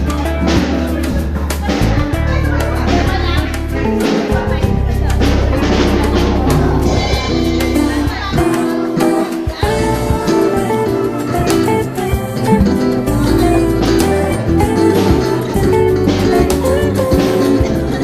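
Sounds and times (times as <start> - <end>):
low bass line: 0.0 - 8.5, 11.2 - 17.1
guitar music: 0.0 - 18.0.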